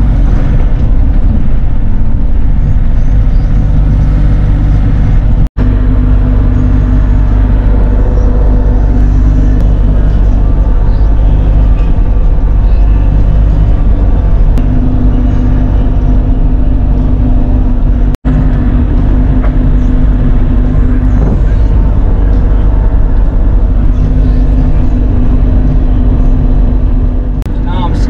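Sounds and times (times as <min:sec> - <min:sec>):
hydraulic whine: 0:00.0 - 0:27.6
excavator diesel engine running: 0:00.0 - 0:28.0.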